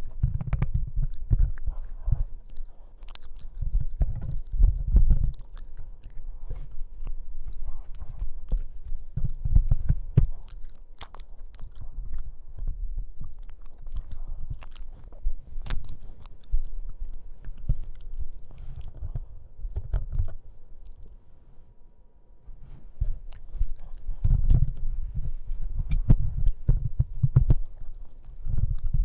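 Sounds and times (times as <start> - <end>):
puppy teeth clicking: 0.0 - 21.2, 23.3 - 24.9, 25.8 - 29.0.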